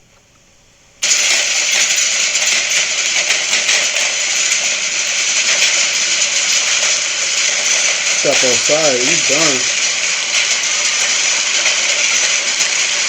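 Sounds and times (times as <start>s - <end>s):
heavy hail clattering: 1.0s - 13.0s.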